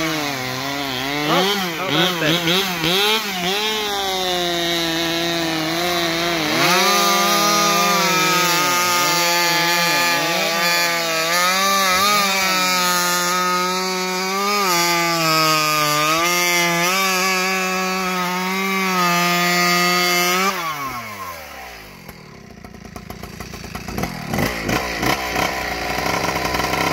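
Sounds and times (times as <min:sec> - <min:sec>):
chainsaw cutting log: 0:00.0 - 0:26.9.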